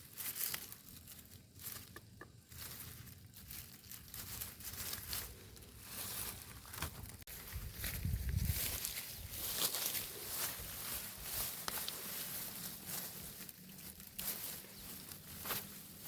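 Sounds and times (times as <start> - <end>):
rustling and crinkling: 0.0 - 16.0.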